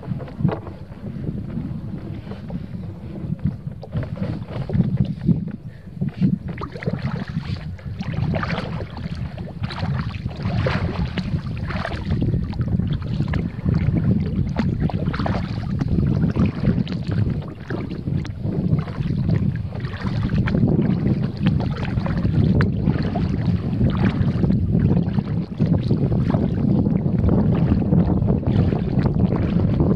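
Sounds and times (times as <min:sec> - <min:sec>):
paddle strokes splashing: 0:00.0 - 0:29.9
wind rumble on microphone: 0:00.0 - 0:29.9.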